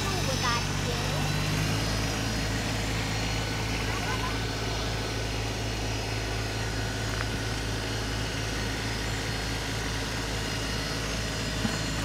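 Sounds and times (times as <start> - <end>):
diesel tractor engine running: 0.0 - 12.0
front loader working dirt: 0.0 - 12.0.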